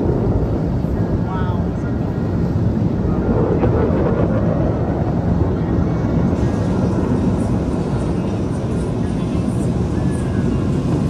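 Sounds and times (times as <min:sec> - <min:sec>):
jet engines rumbling overhead: 0:00.0 - 0:11.0.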